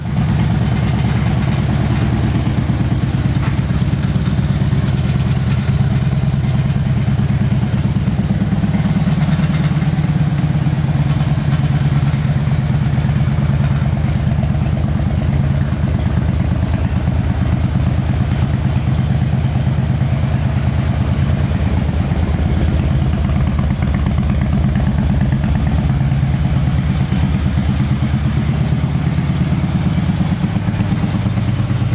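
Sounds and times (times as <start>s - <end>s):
motorcycle engine idling: 0.0s - 31.9s.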